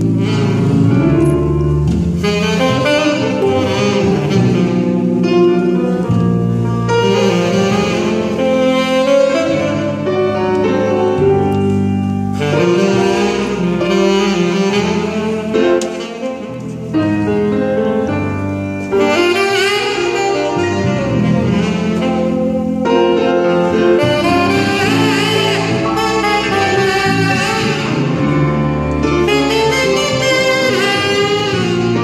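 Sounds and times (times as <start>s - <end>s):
electric bass guitar: 0.0s - 32.0s
grand piano: 0.0s - 32.0s
saxophone melody: 0.0s - 32.0s.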